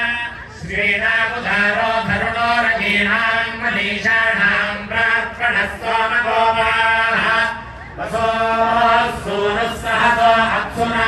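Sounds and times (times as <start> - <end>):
mantras chanted: 0.0 - 11.0.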